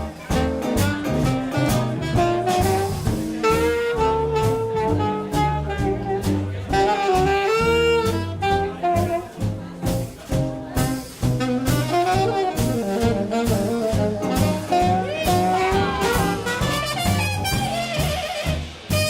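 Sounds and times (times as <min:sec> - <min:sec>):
swing drums: 0:00.0 - 0:19.0
walking bass: 0:00.0 - 0:19.0
saxophone solo: 0:00.4 - 0:09.4, 0:11.4 - 0:19.0.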